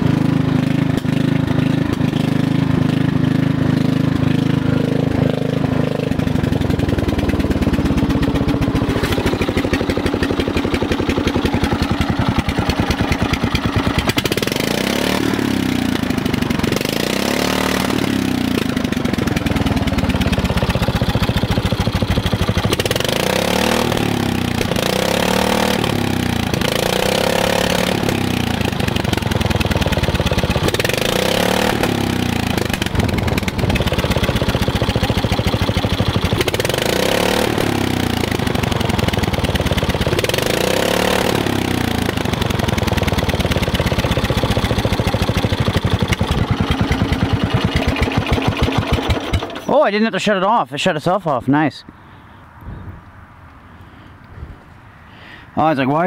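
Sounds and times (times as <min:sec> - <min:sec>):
single-cylinder engine revving: 0:00.0 - 0:49.9.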